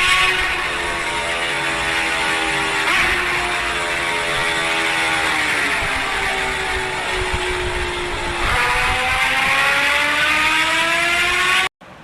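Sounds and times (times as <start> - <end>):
motorcycle engine accelerating: 0.0 - 11.7.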